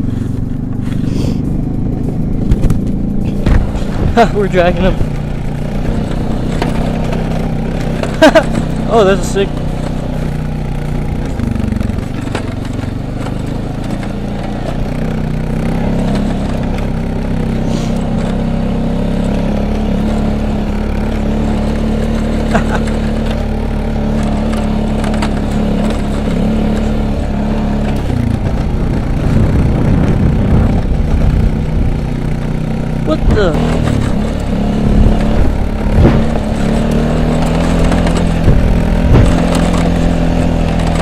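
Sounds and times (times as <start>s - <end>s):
small vehicle engine running: 0.0s - 41.0s.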